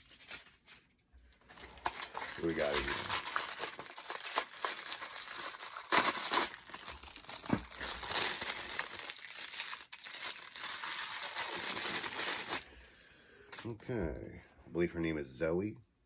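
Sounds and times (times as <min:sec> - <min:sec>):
plastic wrap crinkling: 0:00.0 - 0:12.9.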